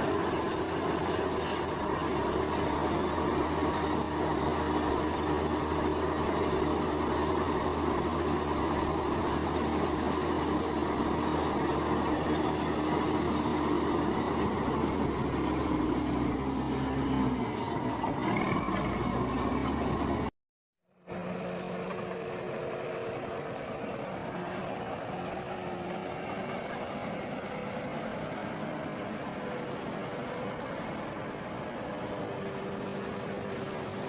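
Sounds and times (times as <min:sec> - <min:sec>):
bulldozer diesel engine running: 0:00.0 - 0:20.3, 0:21.1 - 0:34.0.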